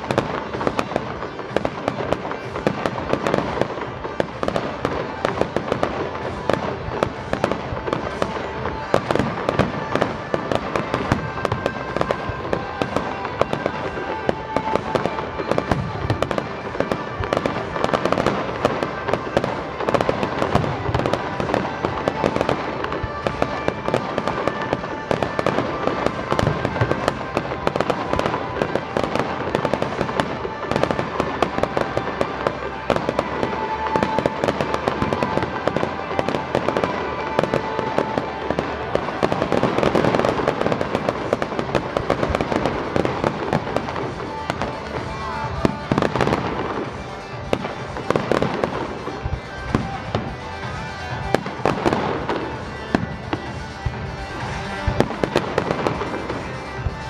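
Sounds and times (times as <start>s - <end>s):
fireworks popping and crackling: 0.0s - 57.0s.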